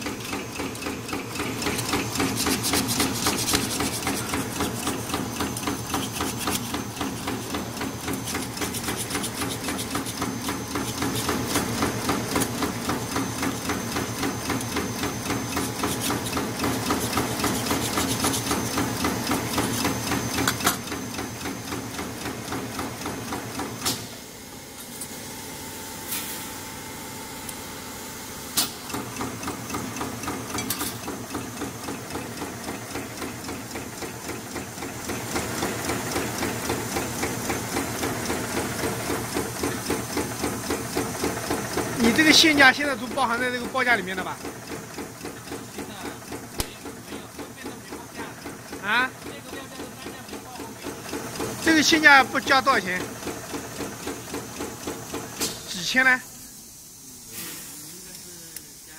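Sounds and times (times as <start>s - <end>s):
welding machine clattering: 0.0s - 24.1s, 28.6s - 56.2s.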